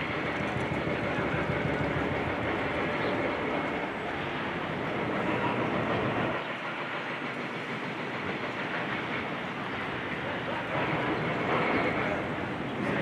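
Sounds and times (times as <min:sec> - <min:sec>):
demolition machinery rumble and clatter: 0:00.0 - 0:13.0.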